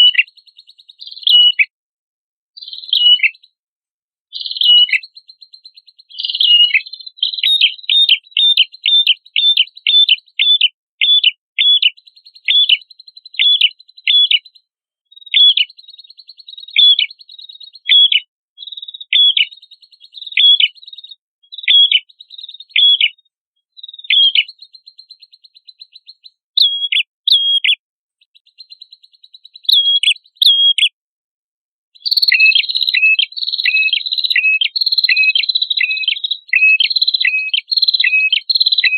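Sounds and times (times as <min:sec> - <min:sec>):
songbird calling: 0:00.0 - 0:01.7, 0:02.6 - 0:03.6, 0:04.3 - 0:31.0, 0:32.0 - 0:38.9.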